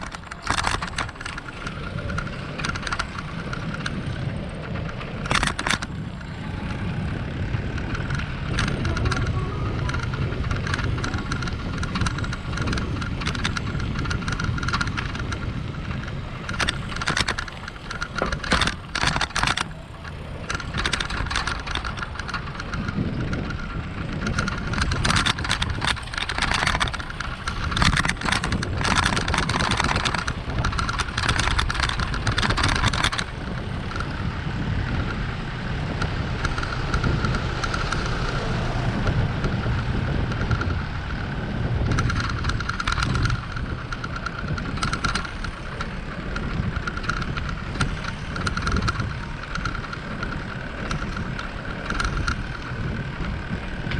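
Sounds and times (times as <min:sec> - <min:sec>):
crackling noise: 0:00.0 - 0:53.9
tyres rolling on wet street: 0:00.0 - 0:53.9
wind on microphone: 0:00.0 - 0:53.9.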